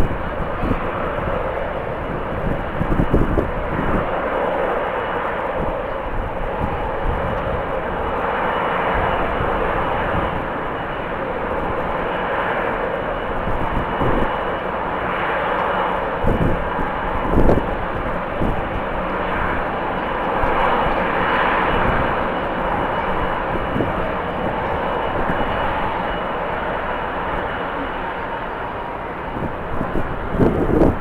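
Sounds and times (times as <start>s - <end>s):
jet engines running: 0.0s - 31.0s
wind buffeting microphone: 0.0s - 31.0s.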